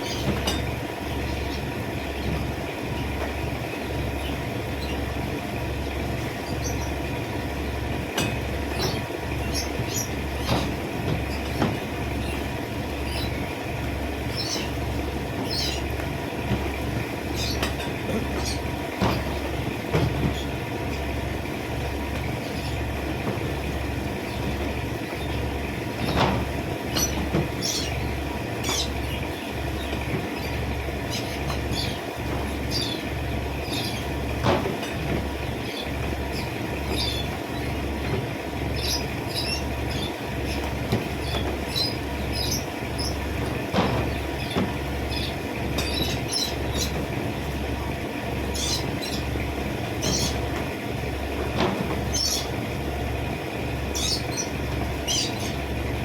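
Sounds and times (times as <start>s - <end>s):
small birds chirping: 0.0s - 8.0s, 8.6s - 53.1s, 53.7s - 55.8s
throbbing mechanical hum: 0.0s - 56.0s.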